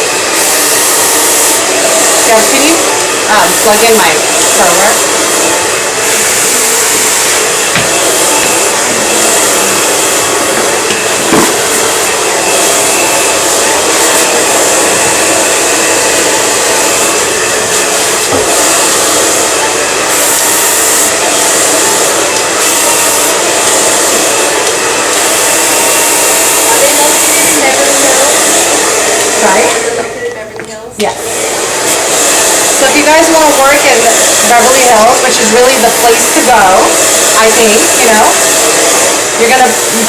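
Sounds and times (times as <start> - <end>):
hair dryer blowing: 0.0 - 40.0.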